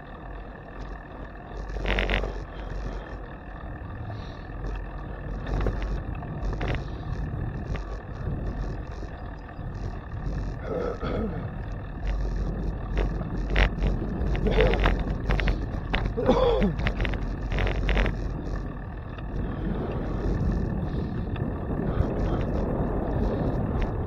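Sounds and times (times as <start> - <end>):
rattles and clicks: 0.0 - 24.0
wind buffeting microphone: 0.0 - 24.0.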